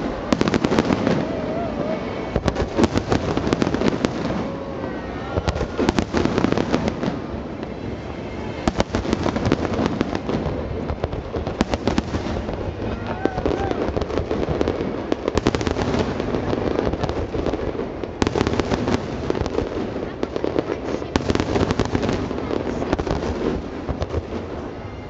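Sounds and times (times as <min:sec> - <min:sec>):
faint crowd voices: 0:00.0 - 0:25.0
fireworks bursting and crackling: 0:00.0 - 0:25.0.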